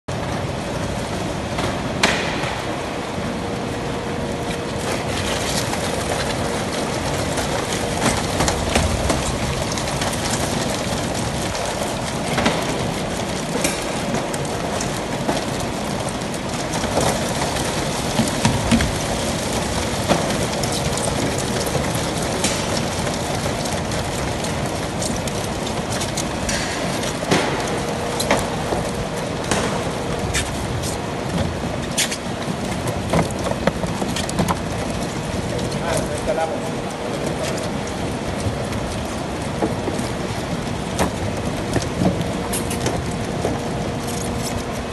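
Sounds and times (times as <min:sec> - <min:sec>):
crates knocking and clattering: 0:00.1 - 0:44.9.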